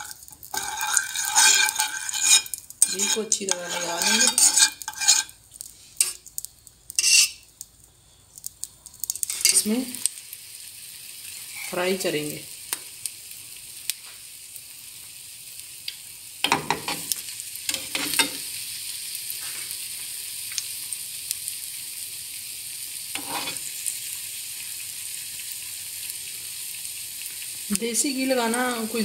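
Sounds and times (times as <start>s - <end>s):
bread sizzling in frying pan: 0.0s - 29.0s.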